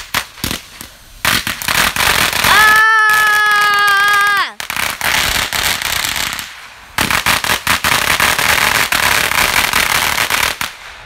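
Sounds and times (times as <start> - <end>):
firework crackling pops and bangs: 0.0 - 11.0.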